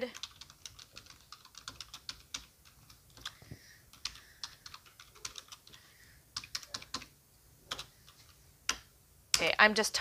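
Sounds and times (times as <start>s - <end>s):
keyboard typing: 0.0s - 8.9s.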